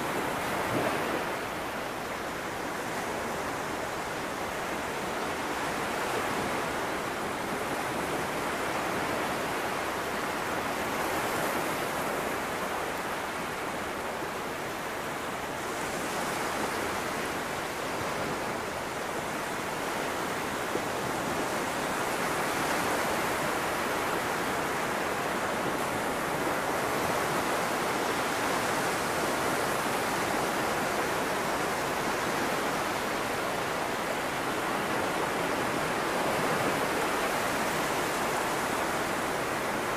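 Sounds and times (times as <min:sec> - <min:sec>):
waves washing up a beach: 0:00.0 - 0:39.9.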